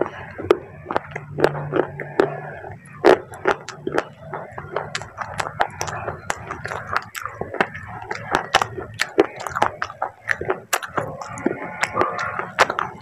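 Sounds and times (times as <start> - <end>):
chewing crunchy clay: 0.0 - 13.0
wet mouth sounds: 0.0 - 13.0.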